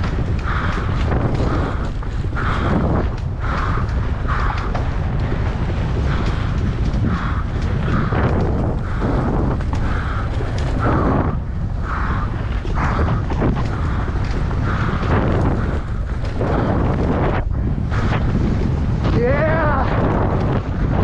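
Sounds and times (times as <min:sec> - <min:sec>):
bike rattling over dirt trail: 0:00.0 - 0:21.0
wind buffeting microphone: 0:00.0 - 0:21.0.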